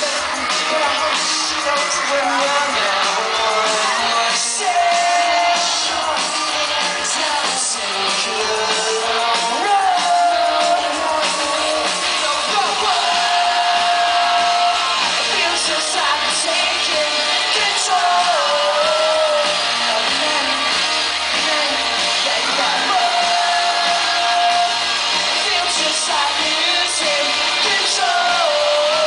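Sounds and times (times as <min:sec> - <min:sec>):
audience shouting: 0:00.0 - 0:29.0
live pop-rock band: 0:00.0 - 0:29.0.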